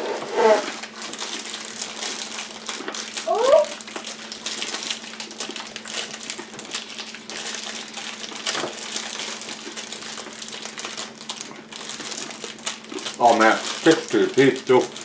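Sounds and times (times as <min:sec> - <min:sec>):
plastic wrappers crinkling: 0:00.4 - 0:15.0.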